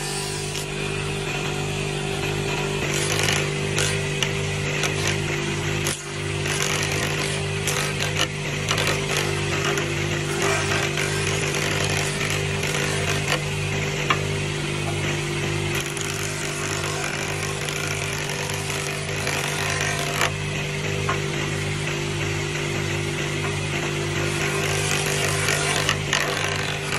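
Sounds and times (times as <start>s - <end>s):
planer shaving wood: 0.0s - 26.9s
wood planer running: 0.0s - 26.9s.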